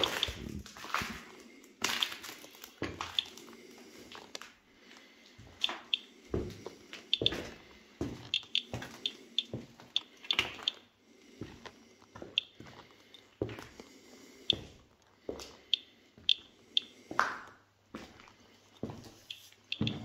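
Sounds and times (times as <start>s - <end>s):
footsteps crunching on grit: 0.0s - 4.4s, 5.0s - 15.6s, 17.9s - 20.0s.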